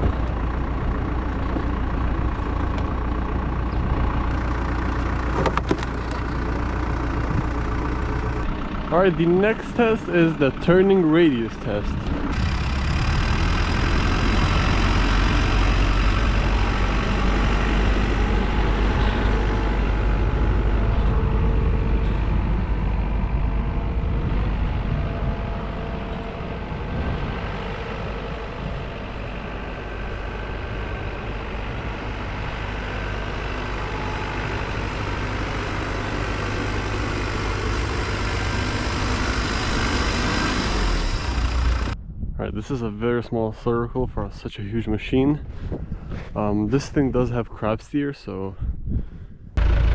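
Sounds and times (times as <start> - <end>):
backhoe diesel engine running: 0.0 - 42.0, 49.0 - 49.9.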